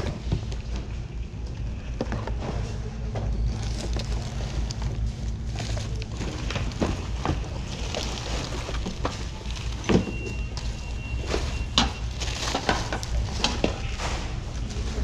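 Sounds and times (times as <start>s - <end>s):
low store hum: 0.0s - 15.0s.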